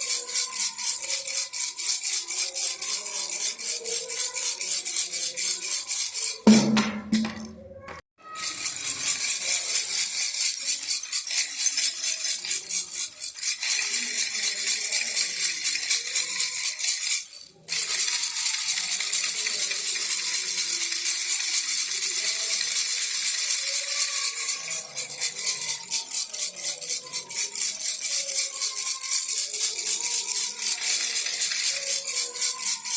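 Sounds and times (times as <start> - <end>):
baby rattle shaking: 0.0 - 7.5, 8.2 - 32.9.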